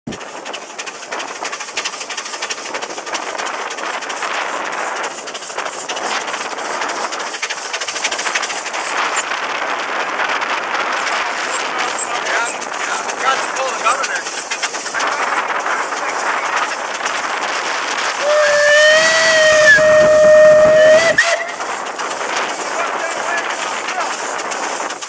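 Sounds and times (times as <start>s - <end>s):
steam engine chuffing: 0.1s - 25.0s.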